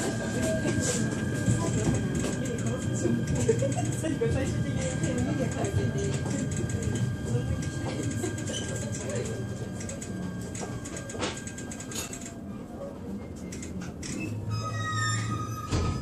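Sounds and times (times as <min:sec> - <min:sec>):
train cabin rumble and hum: 0:00.0 - 0:16.0.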